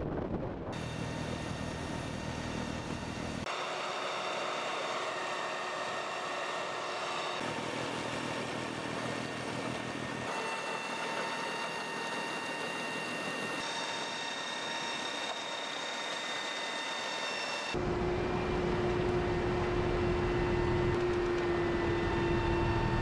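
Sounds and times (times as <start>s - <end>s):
tractor engine drone: 0.0s - 23.0s
snow blower whine: 0.2s - 23.0s.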